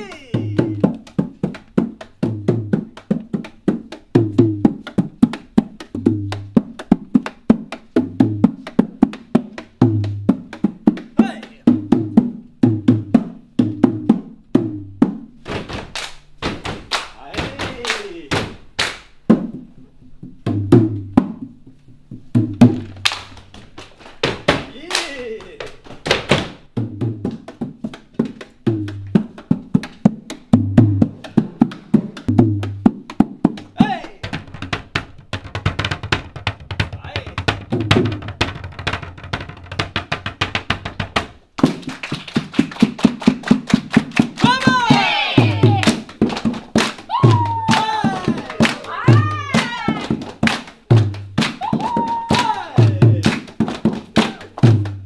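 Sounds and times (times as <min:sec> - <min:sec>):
rhythmic body percussion: 0:00.0 - 0:55.0.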